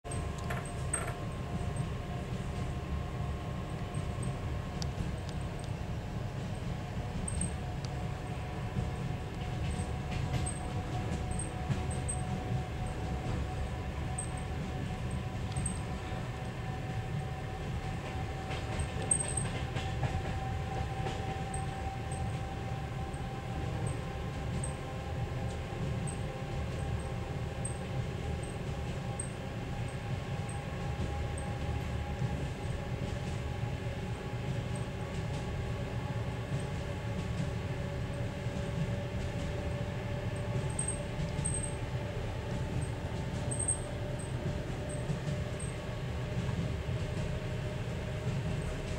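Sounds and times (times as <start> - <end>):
train rumble: 0.0 - 48.9.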